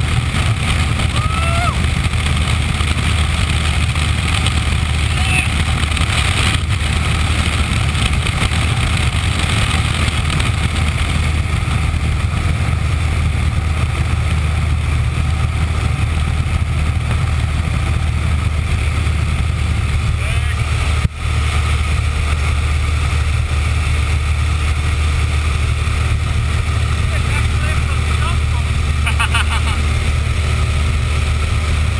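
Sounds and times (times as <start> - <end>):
propeller aircraft engine droning: 0.0 - 31.9.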